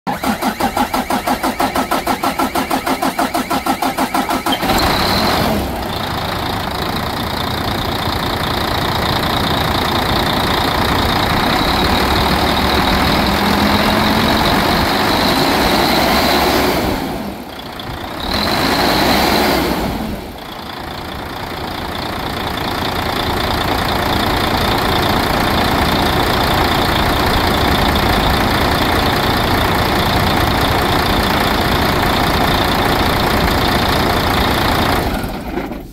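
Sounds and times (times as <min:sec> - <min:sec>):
diesel engine cranking: 0:00.1 - 0:35.9
diesel engine running: 0:00.1 - 0:35.9.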